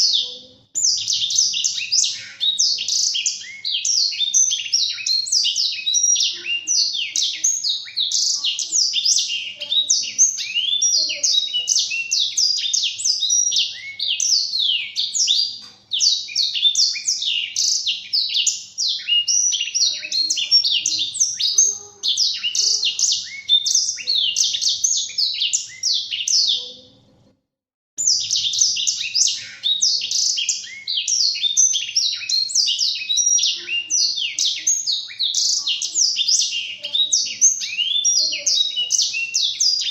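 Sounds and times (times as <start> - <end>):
canary singing chirps and trills: 0.0 - 27.3, 28.0 - 39.9.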